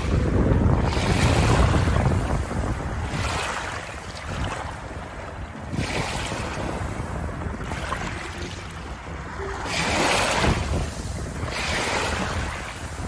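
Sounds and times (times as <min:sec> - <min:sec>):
water waves washing in: 0:00.0 - 0:13.0.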